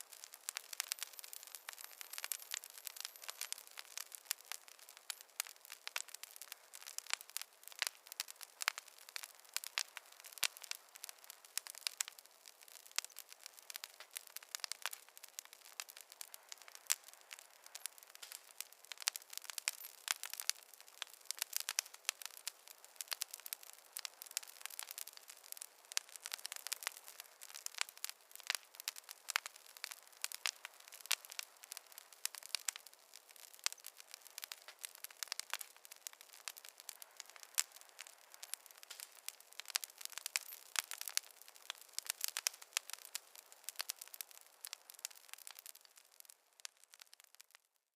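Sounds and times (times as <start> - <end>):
wood fire crackling: 0.0 - 47.8.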